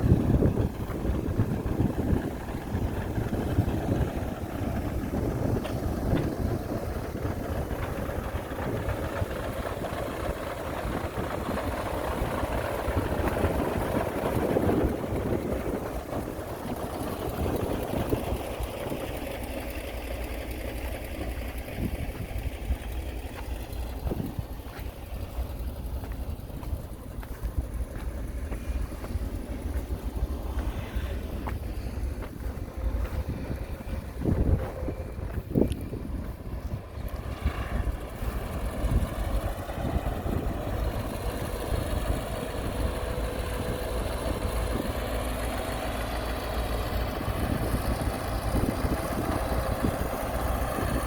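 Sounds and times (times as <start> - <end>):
heavy diesel engine rumbling: 0.0 - 51.0.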